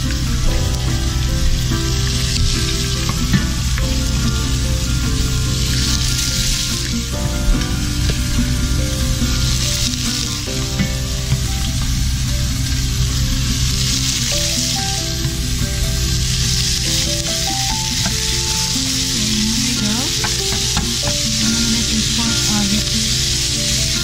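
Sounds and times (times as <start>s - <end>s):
background music: 0.0s - 24.0s
meat sizzling in a pot: 0.0s - 24.0s.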